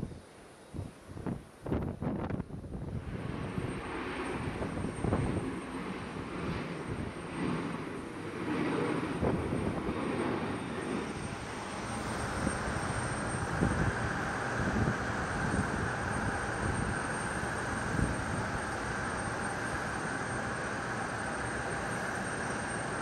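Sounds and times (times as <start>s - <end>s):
jet airliner taking off: 0.0s - 23.0s.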